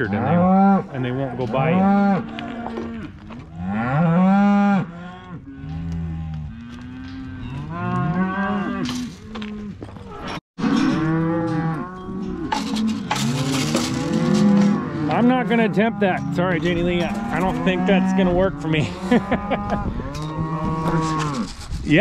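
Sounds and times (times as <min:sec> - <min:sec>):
cows and calves mooing: 0:00.0 - 0:21.6.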